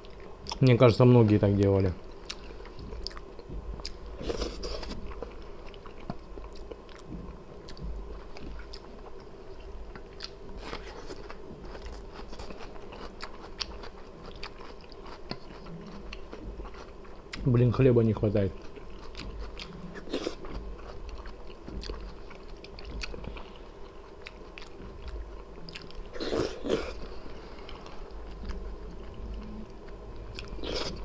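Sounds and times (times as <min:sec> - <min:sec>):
close chewing and eating: 0:00.0 - 0:31.0.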